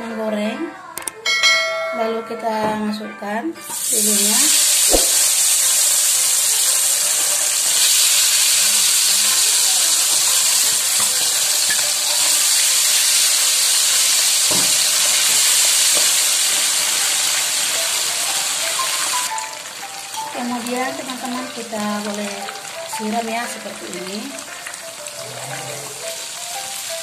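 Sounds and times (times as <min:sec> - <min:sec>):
fish deep-frying in hot oil: 0:03.7 - 0:27.0.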